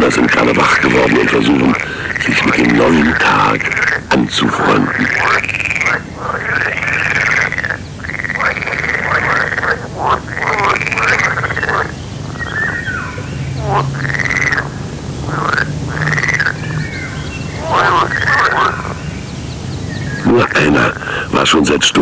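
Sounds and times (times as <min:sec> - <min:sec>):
frogs croaking: 0:00.0 - 0:22.0
low steady hum: 0:00.0 - 0:22.0.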